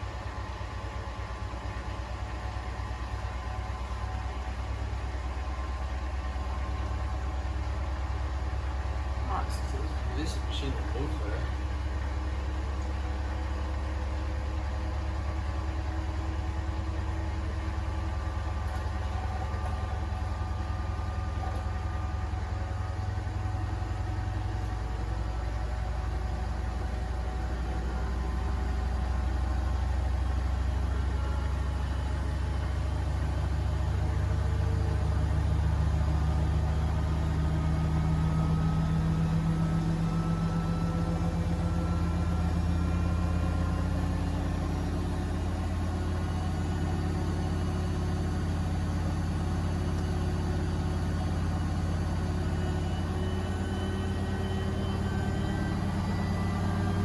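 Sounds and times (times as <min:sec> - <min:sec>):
washing machine spinning up: 0:00.0 - 0:57.0.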